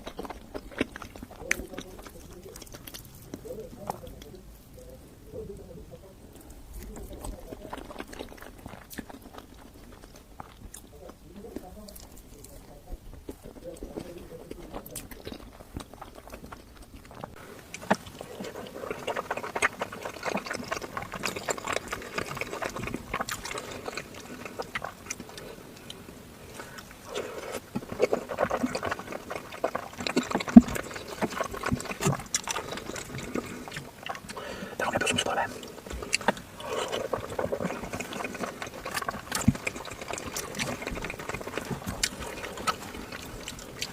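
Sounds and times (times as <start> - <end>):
wet chewing and slurping: 0.0 - 5.0, 6.3 - 43.9.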